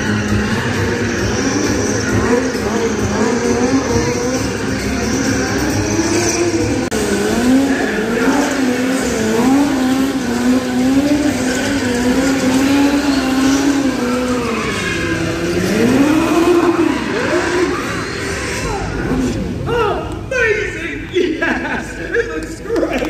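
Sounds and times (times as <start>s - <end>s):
vehicle engine revving: 0.0s - 20.3s.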